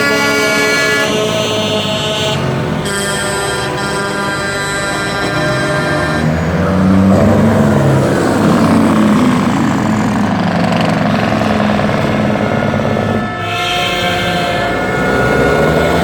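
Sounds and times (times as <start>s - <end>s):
truck engine running loud: 0.0s - 16.0s.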